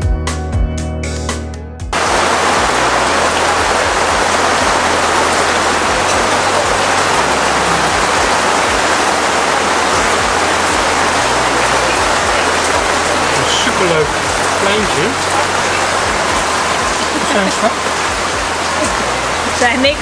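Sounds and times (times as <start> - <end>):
background music: 0.0 - 20.0
hard rain pouring: 1.9 - 20.0.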